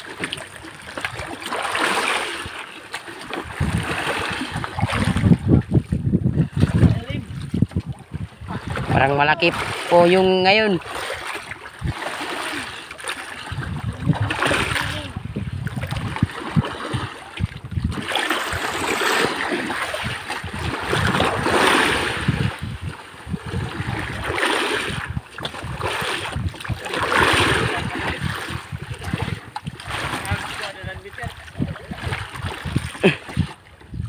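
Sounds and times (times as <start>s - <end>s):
sea water rushing and splashing: 0.0s - 34.0s.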